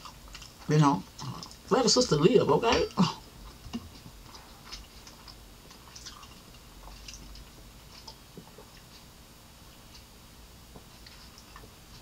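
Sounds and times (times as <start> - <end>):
soft chewing: 0.0 - 1.7, 2.9 - 12.0.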